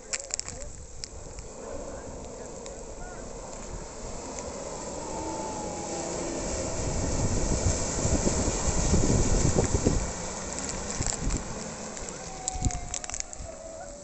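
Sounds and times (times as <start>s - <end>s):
jeep engine approaching: 0.0s - 14.0s.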